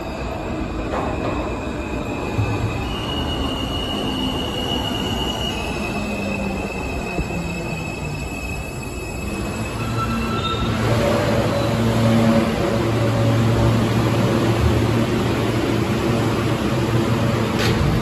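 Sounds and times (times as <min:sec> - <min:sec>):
subway car humming: 0:00.0 - 0:18.0.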